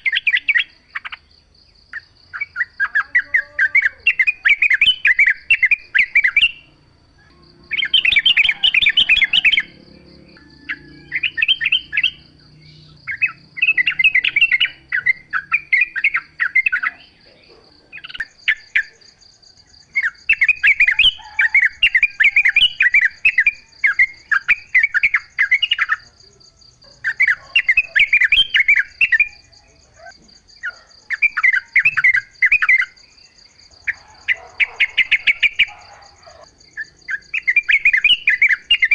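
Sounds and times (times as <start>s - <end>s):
bulbul singing chattering phrases: 0.0s - 1.3s, 1.9s - 38.9s.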